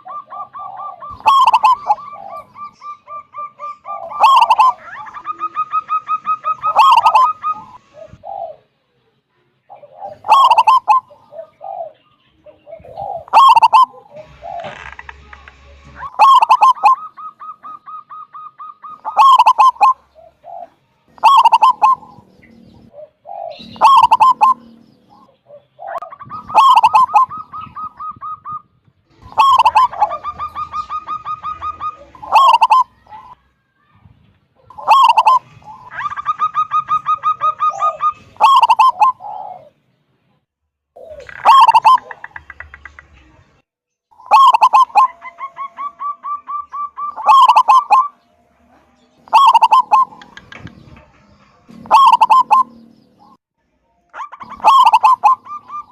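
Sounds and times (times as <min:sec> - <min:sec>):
dove cooing song: 0:00.0 - 0:09.0, 0:09.6 - 0:15.0, 0:16.0 - 0:33.4, 0:34.6 - 0:39.8, 0:41.0 - 0:42.9, 0:44.2 - 0:48.2, 0:49.0 - 0:51.0, 0:51.7 - 0:53.4, 0:54.2 - 0:55.9.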